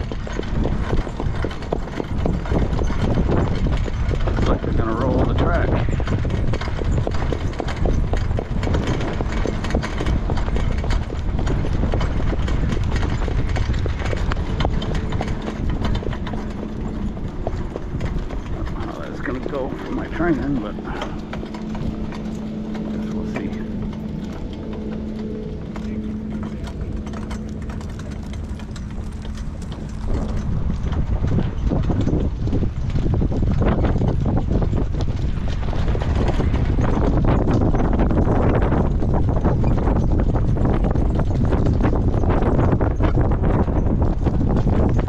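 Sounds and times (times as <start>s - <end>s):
horse hoofbeats on dirt: 0.0s - 45.0s
loud low rumble: 0.0s - 45.0s.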